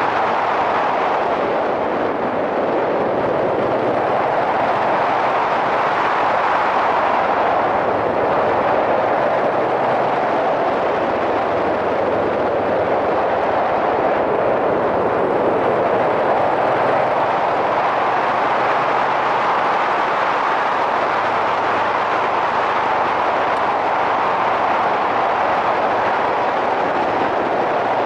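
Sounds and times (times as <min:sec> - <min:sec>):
wind rushing: 0:00.0 - 0:28.0.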